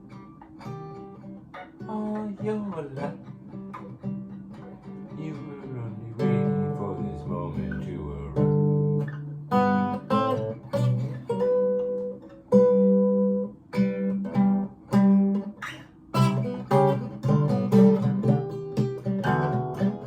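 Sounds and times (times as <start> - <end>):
acoustic guitar picked and strummed: 0.0 - 20.0.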